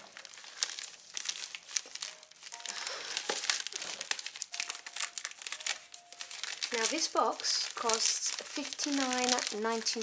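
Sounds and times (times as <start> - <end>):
plastic mailer crinkling: 0.0 - 10.0.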